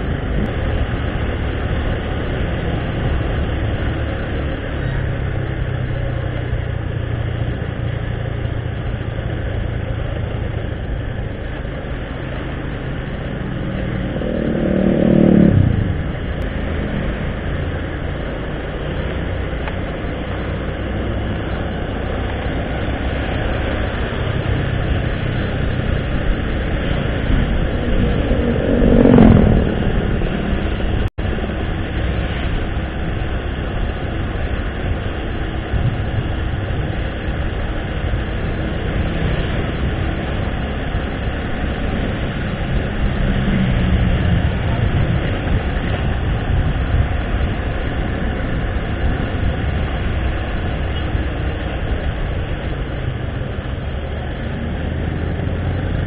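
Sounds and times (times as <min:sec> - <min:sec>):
motorcycle engine running: 0:00.0 - 0:56.0
road and wind noise: 0:00.0 - 0:56.0
vehicle passing by: 0:00.0 - 0:56.0.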